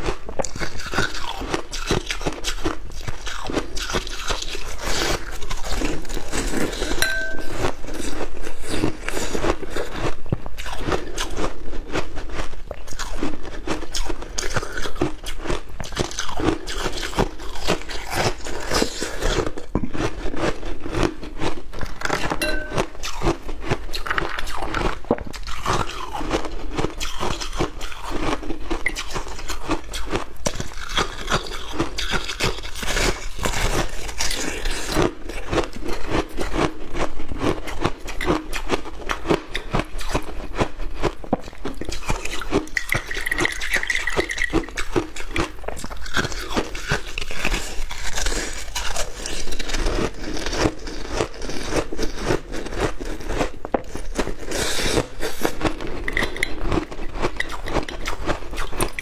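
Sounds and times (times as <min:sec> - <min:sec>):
crunching ice being chewed: 0:00.0 - 0:59.0.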